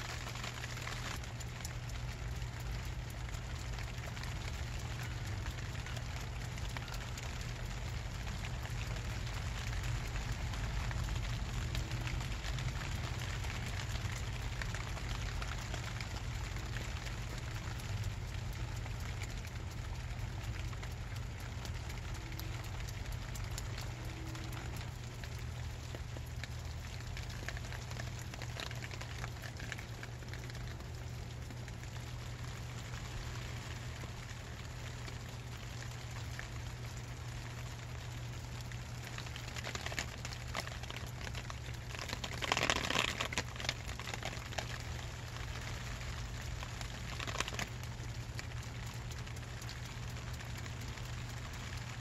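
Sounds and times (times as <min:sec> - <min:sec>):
low rumble: 0:00.0 - 0:42.0
rain pattering on plastic sheeting: 0:00.0 - 0:52.0.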